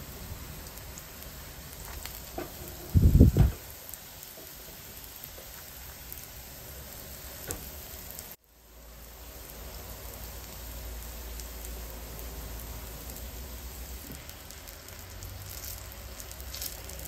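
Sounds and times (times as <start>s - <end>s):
patties sizzling in oil: 0.0s - 17.0s.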